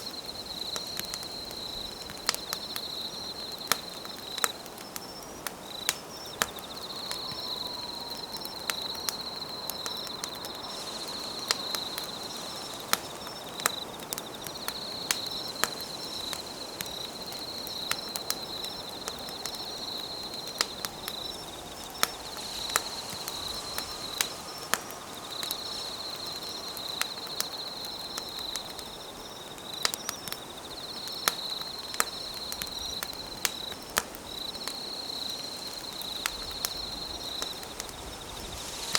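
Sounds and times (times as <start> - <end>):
insects trilling: 0.0 - 38.9
wood fire crackling and popping: 0.0 - 38.9.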